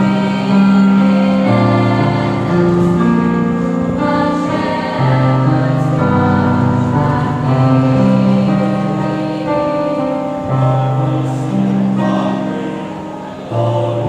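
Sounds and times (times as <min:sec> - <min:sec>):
mixed choir singing: 0:00.0 - 0:14.0.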